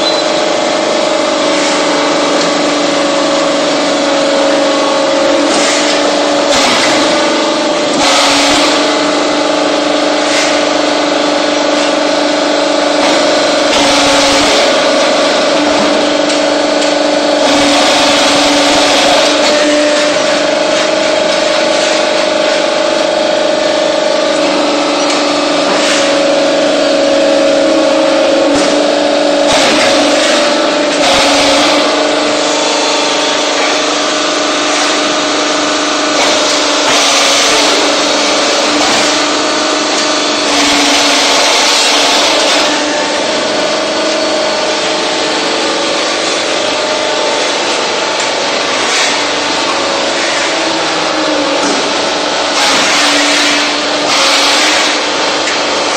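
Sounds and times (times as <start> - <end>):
machine mechanical drone: 0.0 - 55.9.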